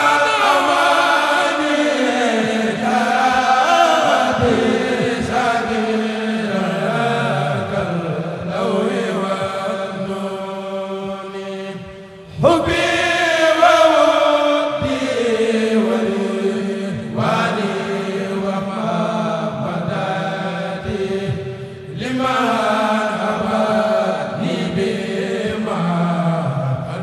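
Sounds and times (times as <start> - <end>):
group chanting in unison: 0.0 - 27.0.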